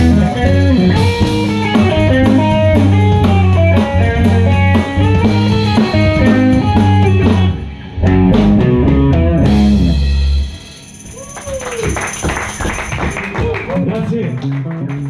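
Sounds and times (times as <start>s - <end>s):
blues band playing: 0.0s - 14.8s.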